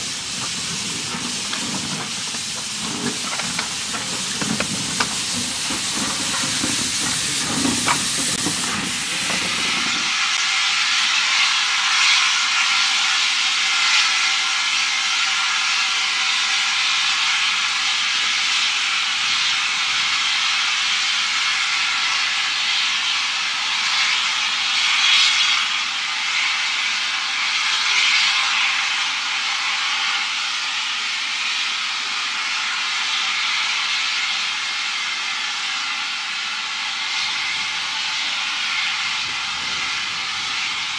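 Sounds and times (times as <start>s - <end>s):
steam locomotives hissing: 0.0s - 40.9s.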